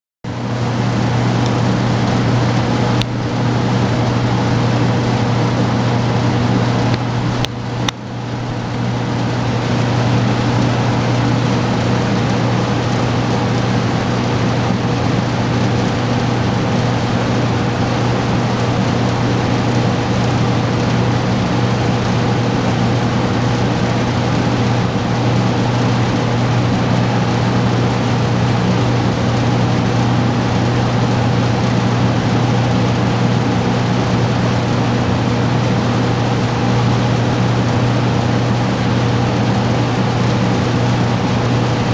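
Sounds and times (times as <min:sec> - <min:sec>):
exhaust fan humming: 0:00.3 - 0:41.9.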